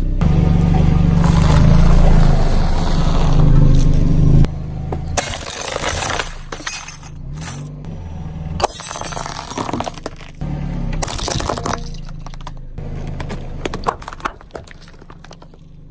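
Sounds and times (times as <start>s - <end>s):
car engine running: 0.0s - 15.9s
things crunching under tyre: 0.0s - 15.9s.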